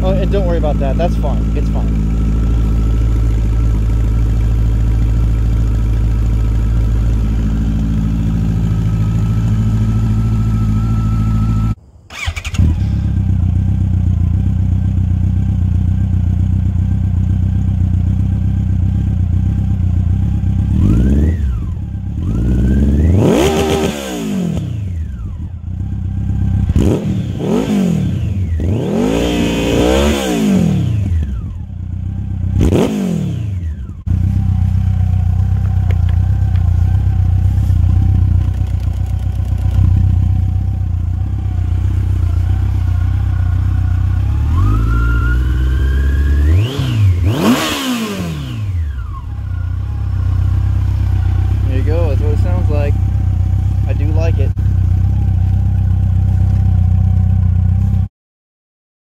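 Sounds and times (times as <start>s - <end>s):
motorcycle engine idling: 0.0s - 58.1s
motorcycle throttle blips: 0.0s - 58.1s.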